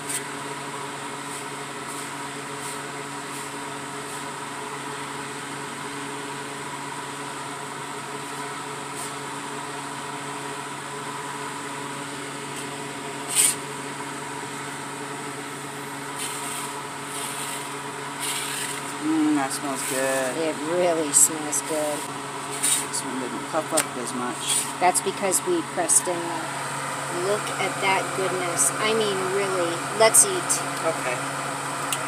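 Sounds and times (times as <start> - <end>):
electric fan humming: 0.0 - 32.0.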